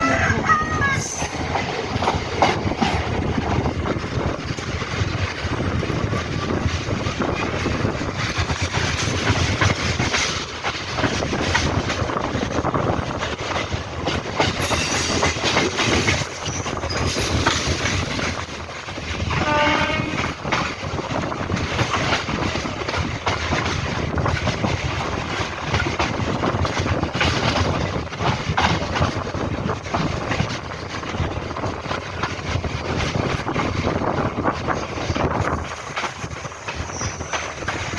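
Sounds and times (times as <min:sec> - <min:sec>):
electric train rumbling on track: 0:00.0 - 0:37.9
wheels clattering over rail joints: 0:01.0 - 0:37.9.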